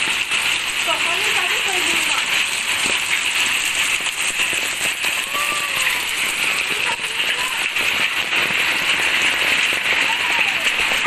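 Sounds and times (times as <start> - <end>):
hailstones clicking: 0.0 - 11.0
heavy rain hissing: 0.0 - 11.0.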